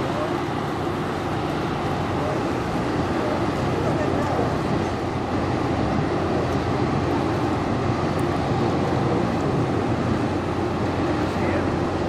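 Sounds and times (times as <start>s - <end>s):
ship diesel engine rumble: 0.0s - 12.0s
stern wash churning: 0.0s - 12.0s.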